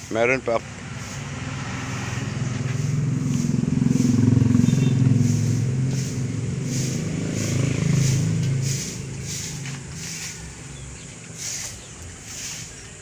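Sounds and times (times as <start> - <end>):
vehicle engine passing by: 0.2 - 13.0.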